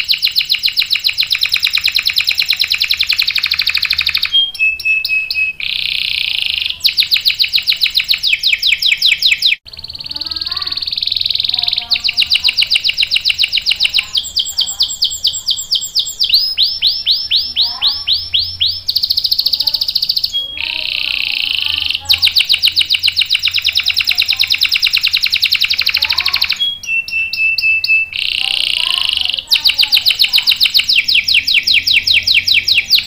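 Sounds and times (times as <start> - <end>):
canary singing rolling trills: 0.0 - 33.0.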